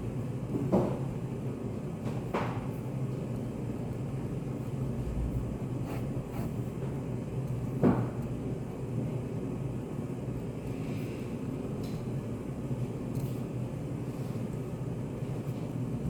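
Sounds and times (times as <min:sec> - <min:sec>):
low room hum and rumble: 0:00.0 - 0:16.0.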